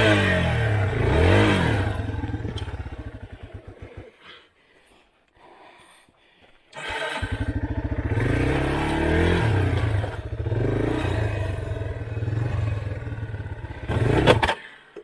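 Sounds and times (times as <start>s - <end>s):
dirt bike engine revving: 0.0s - 4.2s, 6.8s - 14.6s.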